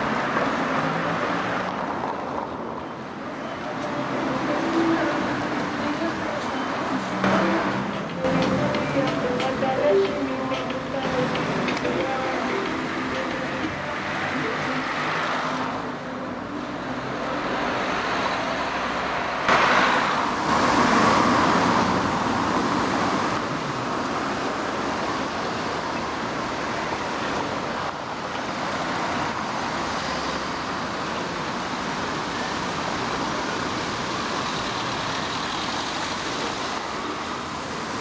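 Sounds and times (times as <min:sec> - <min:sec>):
steady traffic hum: 0:00.0 - 0:38.0.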